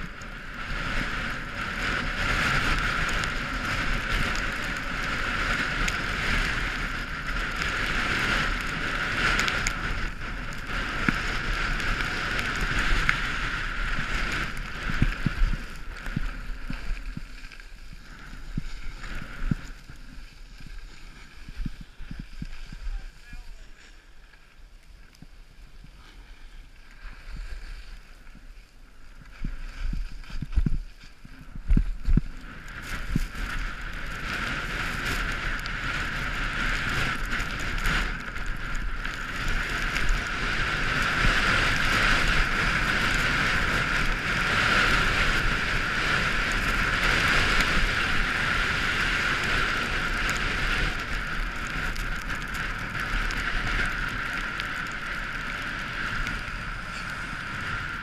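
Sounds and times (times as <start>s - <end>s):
wind on microphone: 0.0s - 24.2s, 25.2s - 58.0s
hiss of sliding over snow: 0.7s - 58.0s.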